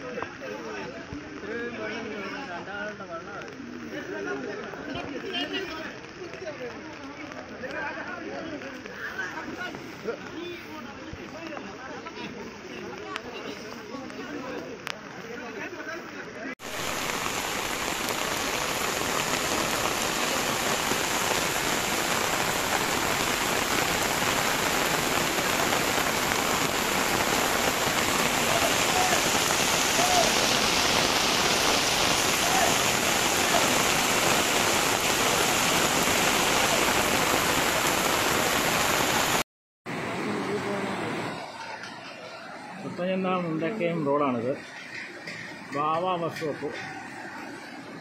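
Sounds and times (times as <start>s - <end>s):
heavy rain: 0.0s - 43.0s, 46.6s - 48.0s.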